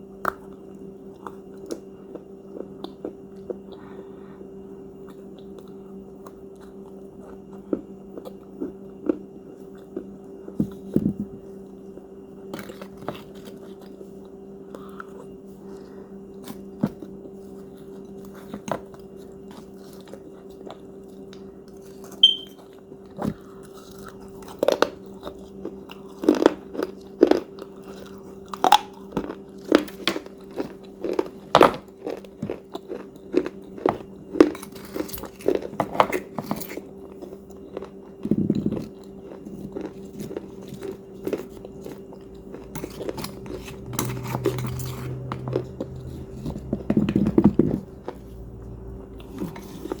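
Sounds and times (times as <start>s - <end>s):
person chewing crunchy cookie: 0.0s - 50.0s
steady low hum: 0.0s - 50.0s.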